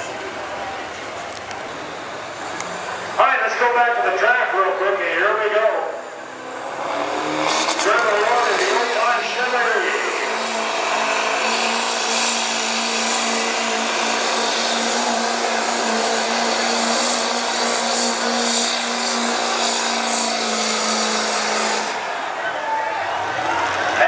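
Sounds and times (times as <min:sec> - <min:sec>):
diesel engine at full throttle: 0:00.0 - 0:24.0.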